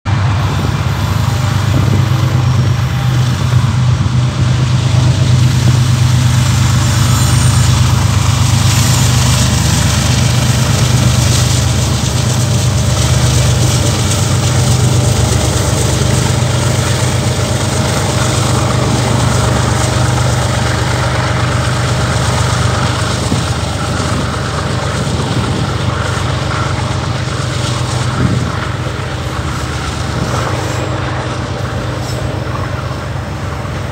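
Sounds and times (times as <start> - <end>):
diesel locomotive engines droning: 0.0 - 33.9
steel wheels rumbling on rails: 0.0 - 33.9.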